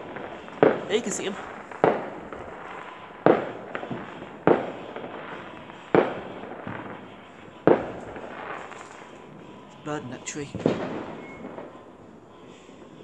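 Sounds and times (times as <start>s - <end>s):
distant fireworks bangs echoing: 0.0s - 13.0s.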